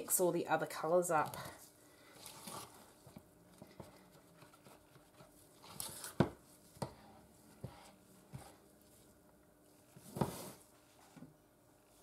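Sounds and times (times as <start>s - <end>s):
spatula stirring thick batter: 1.0s - 11.1s.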